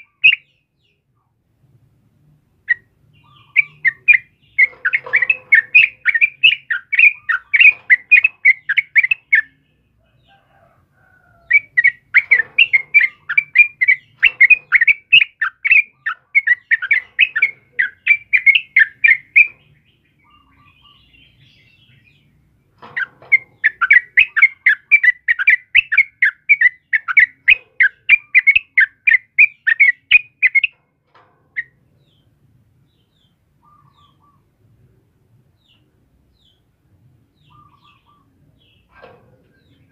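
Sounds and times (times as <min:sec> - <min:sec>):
bird singing chattering notes: 0:00.0 - 0:01.0, 0:02.6 - 0:10.0, 0:11.4 - 0:30.8, 0:31.5 - 0:34.5, 0:37.3 - 0:39.9.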